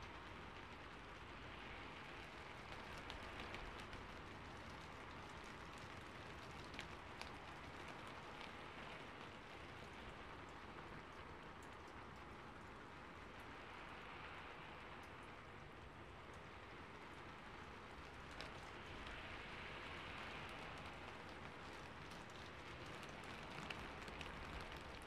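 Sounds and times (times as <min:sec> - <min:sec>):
faint steady hiss: 0:00.0 - 0:25.0.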